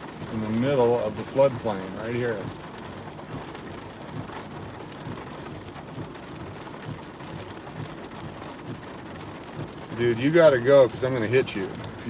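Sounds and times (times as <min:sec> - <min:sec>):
heavy rain pattering on a car: 0:00.0 - 0:12.0.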